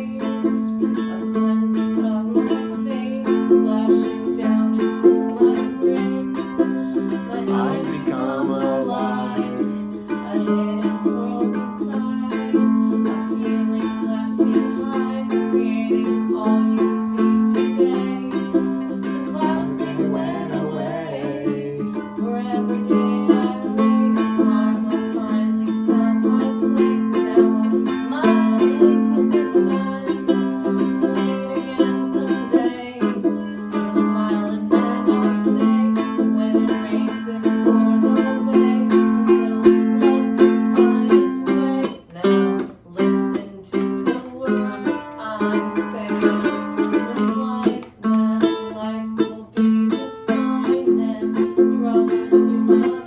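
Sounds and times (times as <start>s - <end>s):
plucked string chords: 0.0s - 53.0s.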